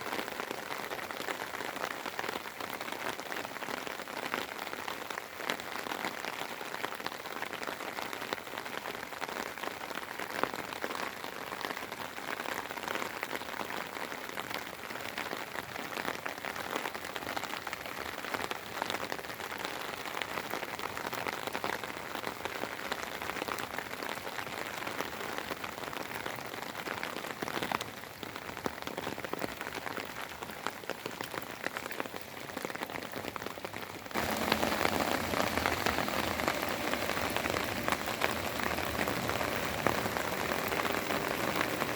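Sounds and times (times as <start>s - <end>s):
rain pattering: 0.0s - 41.9s.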